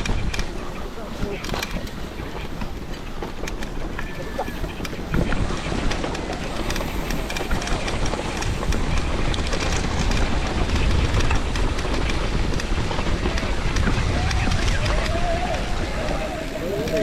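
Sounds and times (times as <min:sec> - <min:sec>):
debris flow rumble: 0:00.0 - 0:17.0.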